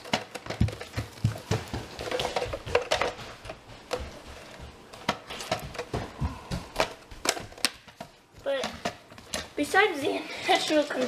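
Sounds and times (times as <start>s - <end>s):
clicks and knocks of objects: 0.0s - 9.8s, 10.6s - 11.0s.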